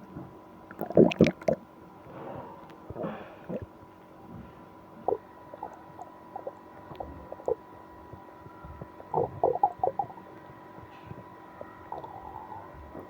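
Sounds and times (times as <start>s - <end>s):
stomach gurgling: 0.1s - 1.7s, 2.7s - 13.0s.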